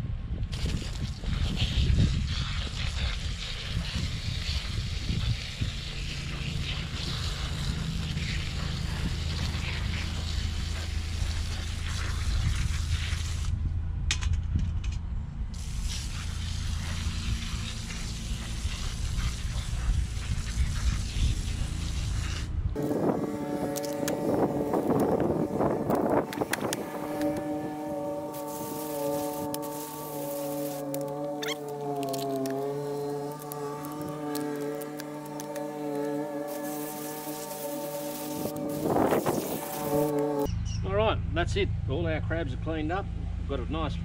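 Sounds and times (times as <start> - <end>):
hose spray hissing: 0.5 - 13.6, 15.6 - 40.5.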